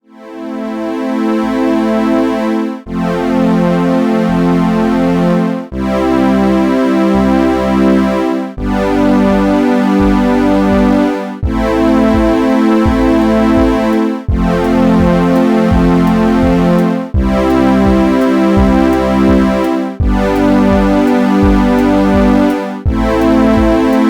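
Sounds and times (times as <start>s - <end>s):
synthesizer and electric piano chords: 0.1s - 24.0s
bass line: 2.9s - 24.0s.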